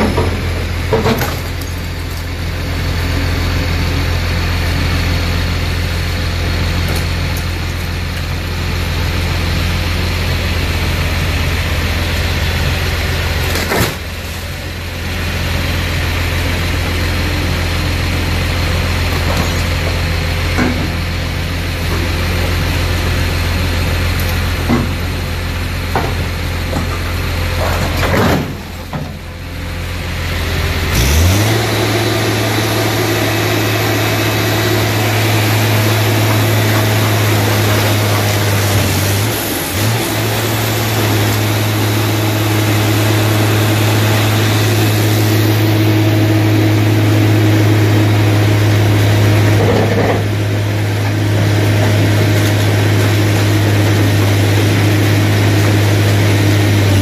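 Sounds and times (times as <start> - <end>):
hydraulic press humming: 0.0 - 57.0.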